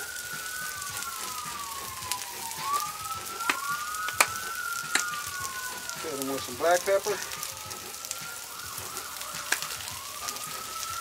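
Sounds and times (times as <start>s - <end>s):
emergency siren wailing: 0.0s - 11.0s
onions sizzling on griddle: 0.0s - 11.0s
spatter pops: 0.0s - 11.0s.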